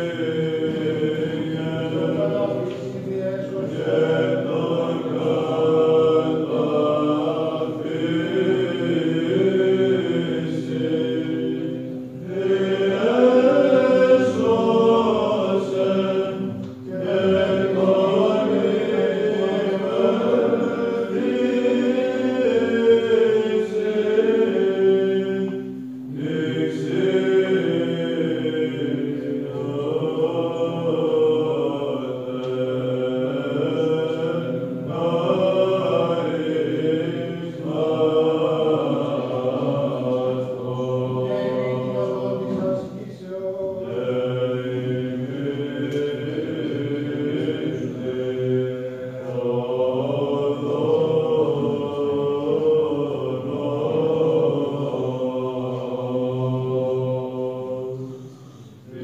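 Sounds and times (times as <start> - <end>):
low held vocal drone: 0.0 - 59.0
men chanting melody: 0.0 - 59.0.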